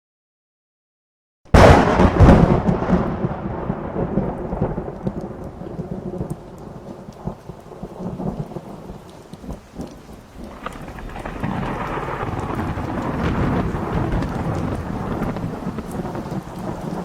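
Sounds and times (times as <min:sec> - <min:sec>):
rain hissing: 0:01.5 - 0:17.0
thunderclap rumbling: 0:01.5 - 0:17.0.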